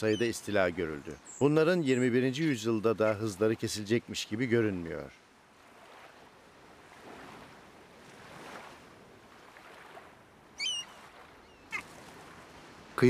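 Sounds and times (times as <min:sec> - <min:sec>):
faint hiss of water and breeze: 0:00.0 - 0:13.0.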